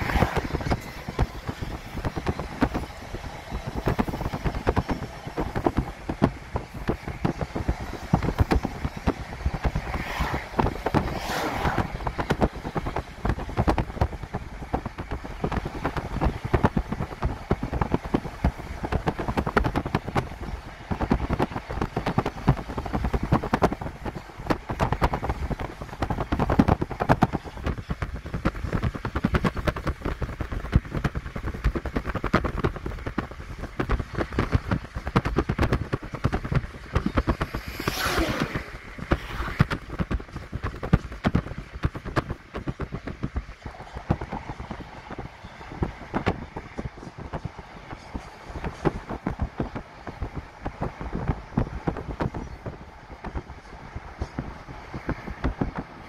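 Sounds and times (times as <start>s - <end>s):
freight train rumbling and clattering: 0.0s - 56.0s
wind buffeting microphone: 0.0s - 56.0s.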